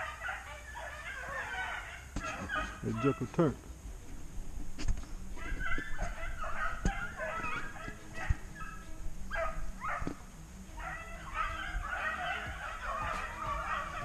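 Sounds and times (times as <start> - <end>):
hounds baying and yelping: 0.0 - 3.6, 4.5 - 14.0.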